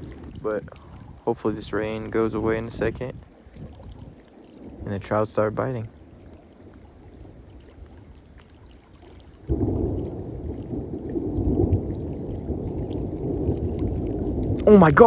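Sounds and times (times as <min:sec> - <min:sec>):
thunder rumbling: 0:00.0 - 0:08.1, 0:09.5 - 0:15.0.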